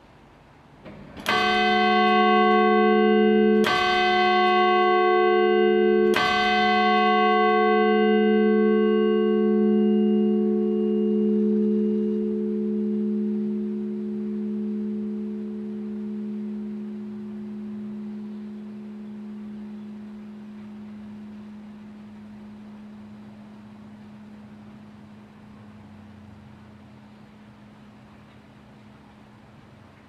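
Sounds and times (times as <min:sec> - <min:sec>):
church bell ringing: 0:01.2 - 0:27.9.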